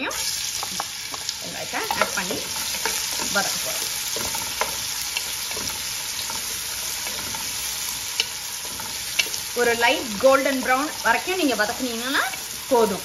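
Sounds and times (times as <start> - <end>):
onions sizzling in hot oil: 0.0 - 13.0
wooden spatula scraping pan: 0.6 - 12.9.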